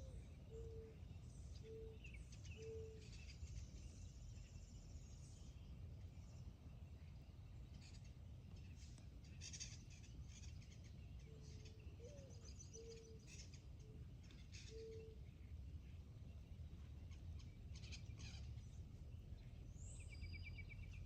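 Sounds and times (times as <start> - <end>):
low steady rumble: 0.0 - 21.0
birds chirping: 0.4 - 21.0.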